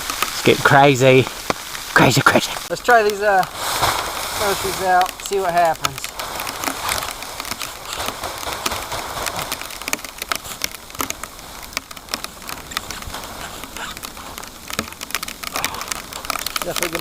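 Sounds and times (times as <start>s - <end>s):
rain pattering: 0.0s - 17.0s
raindrops ticking close by: 0.0s - 17.0s.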